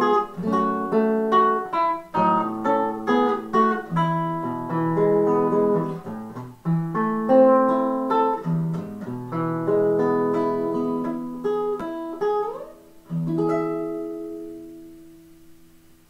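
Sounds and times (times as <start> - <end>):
classical guitar fingerpicked: 0.0 - 16.0.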